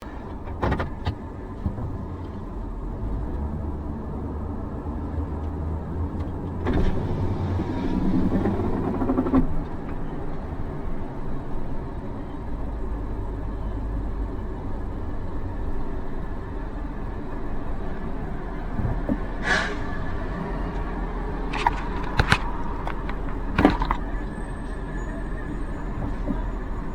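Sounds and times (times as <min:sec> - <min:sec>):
car engine and tyre rumble: 0:00.0 - 0:26.9.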